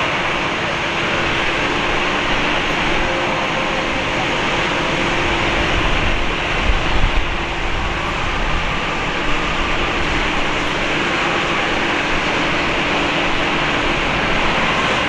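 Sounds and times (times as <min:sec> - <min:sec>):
jet engine rush with hum: 0:00.0 - 0:15.0.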